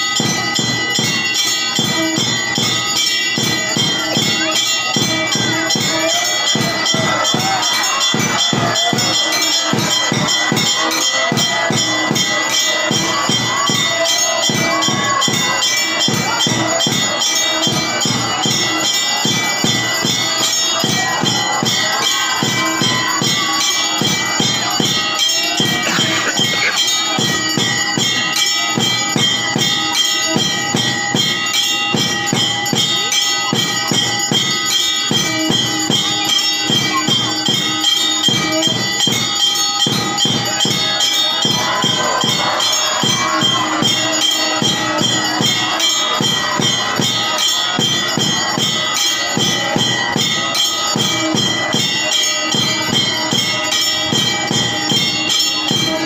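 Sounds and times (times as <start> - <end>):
temple bells ringing: 0.0 - 56.0.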